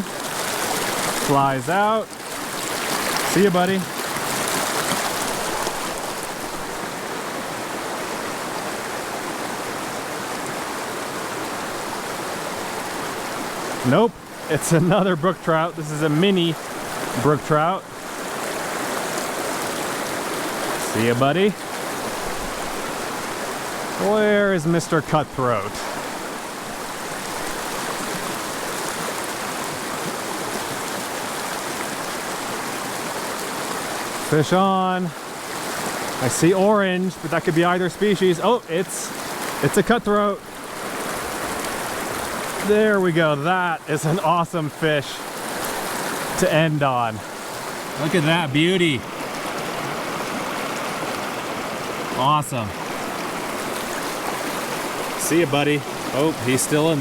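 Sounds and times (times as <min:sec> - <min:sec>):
river flowing: 0:00.0 - 0:57.0
stream running over rocks: 0:00.0 - 0:57.0.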